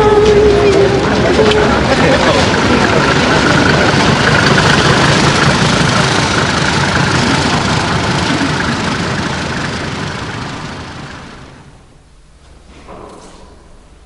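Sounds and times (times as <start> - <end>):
car driving slowly past: 0.0 - 11.9.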